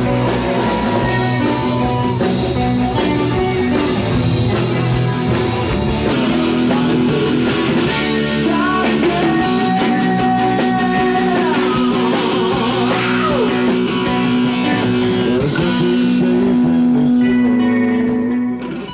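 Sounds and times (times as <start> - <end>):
drums and cymbals: 0.0 - 18.9
electric guitar bending notes: 0.0 - 18.9.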